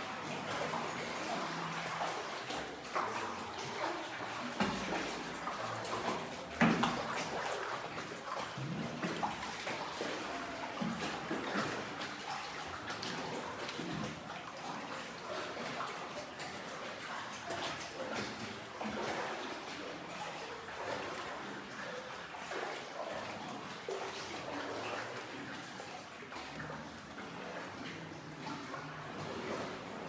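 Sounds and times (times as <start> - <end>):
water sloshing against boat: 0.0 - 30.0.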